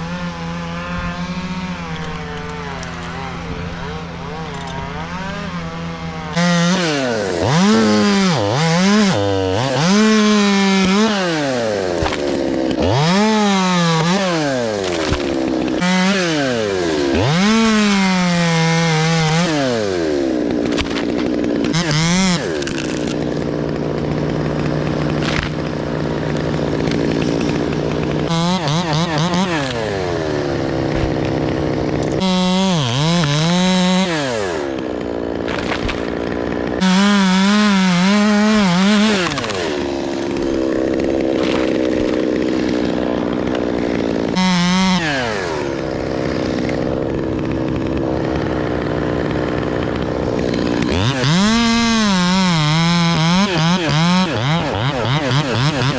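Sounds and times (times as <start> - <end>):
chainsaw revving through wood: 0.0 - 55.9.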